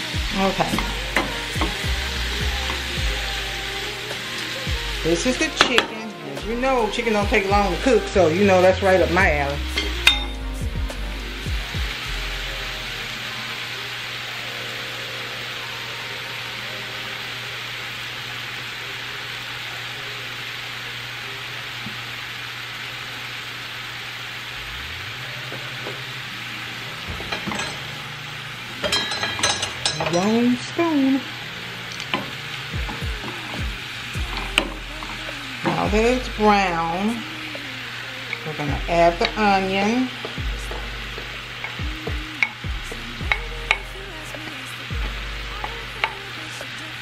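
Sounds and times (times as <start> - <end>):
chicken sizzling in a frying pan: 0.0 - 47.0.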